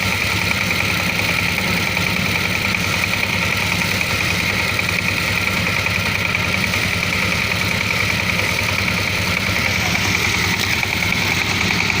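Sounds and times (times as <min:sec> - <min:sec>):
small tiller engine running: 0:00.0 - 0:12.0.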